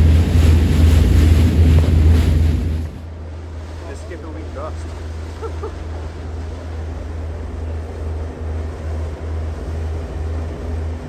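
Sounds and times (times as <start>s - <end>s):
boat engine droning: 0.0s - 11.0s
rushing water: 0.0s - 11.0s
wind: 0.0s - 11.0s.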